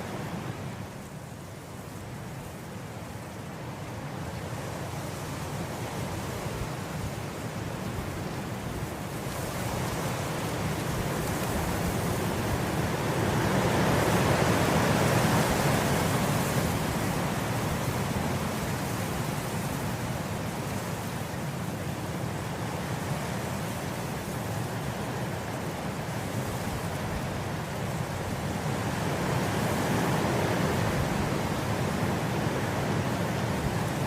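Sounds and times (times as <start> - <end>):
wind blowing through grass: 0.0 - 34.0.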